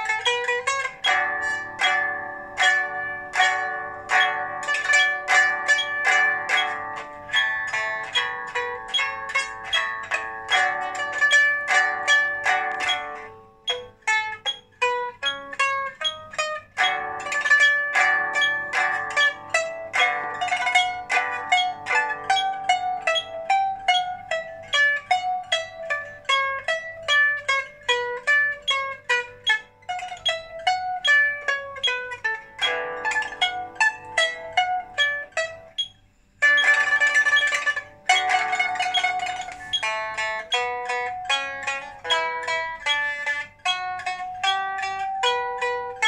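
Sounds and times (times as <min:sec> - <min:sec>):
plucked pipa: 0:00.0 - 0:46.0.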